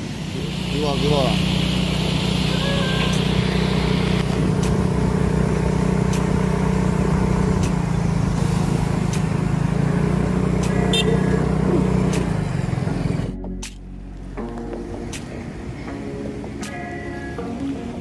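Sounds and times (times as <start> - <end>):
road and wind noise: 0.0 - 18.0
vehicle engine running: 0.0 - 18.0.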